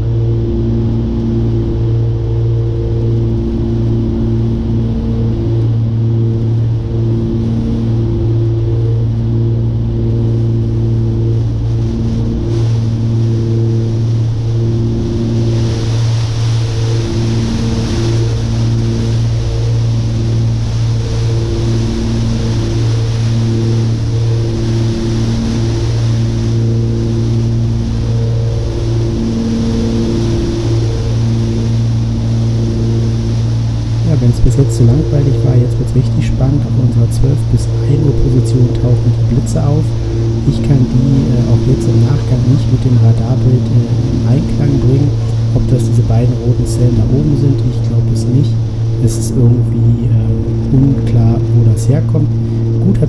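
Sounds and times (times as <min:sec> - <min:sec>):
twin piston engines droning: 0:00.0 - 0:53.0.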